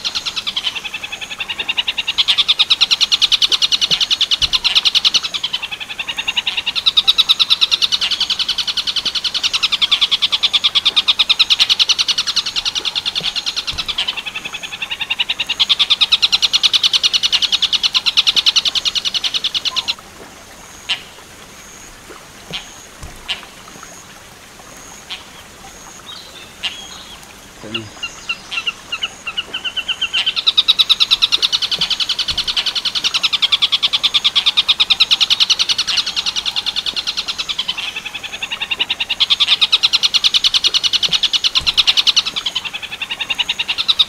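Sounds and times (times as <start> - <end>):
faint chirps and ticks: 0.0 - 44.0.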